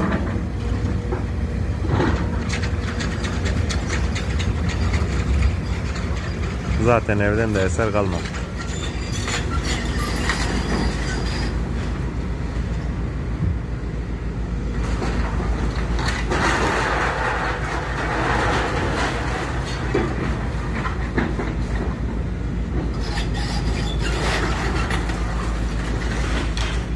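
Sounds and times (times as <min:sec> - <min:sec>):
heavy machine engine running: 0:00.0 - 0:26.9.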